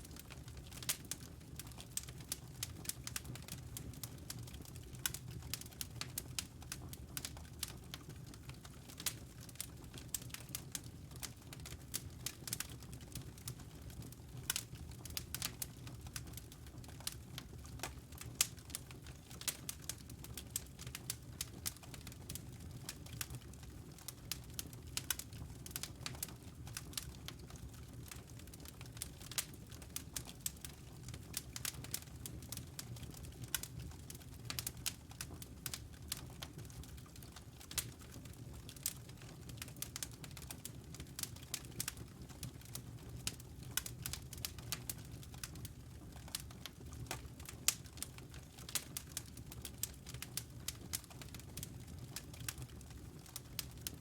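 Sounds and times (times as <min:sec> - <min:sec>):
logs crackling and popping: 0:00.1 - 0:54.0.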